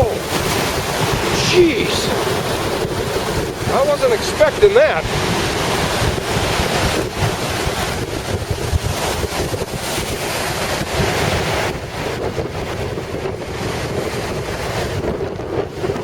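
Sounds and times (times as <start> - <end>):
storm waves crashing on shore: 0.0 - 16.0
wind buffeting microphone: 0.0 - 16.0.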